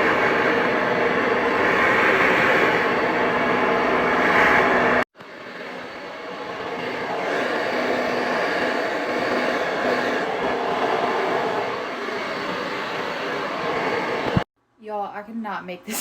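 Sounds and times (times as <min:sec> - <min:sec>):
blow dryer running: 0:00.0 - 0:14.5.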